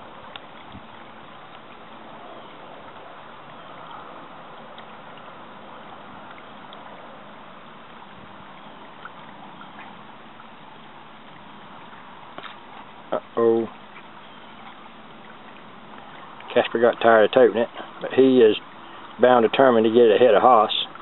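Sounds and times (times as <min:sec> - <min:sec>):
trickling gurgling pond water: 0:00.0 - 0:21.0.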